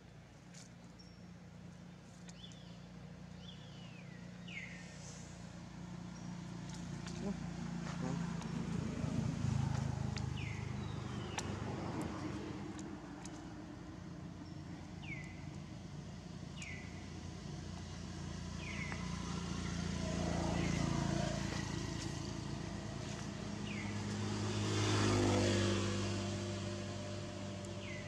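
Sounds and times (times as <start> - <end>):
motor vehicles driving past: 0.5 - 28.0.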